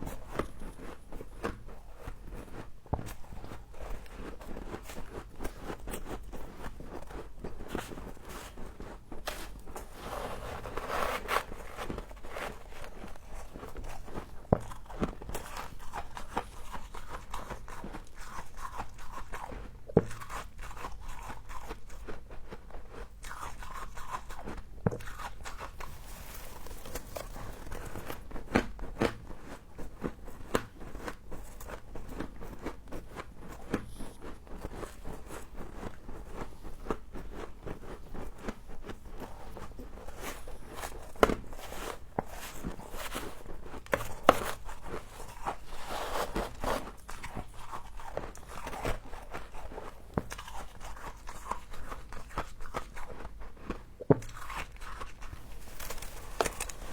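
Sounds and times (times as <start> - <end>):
person chewing crunchy frost: 0.0 - 56.9.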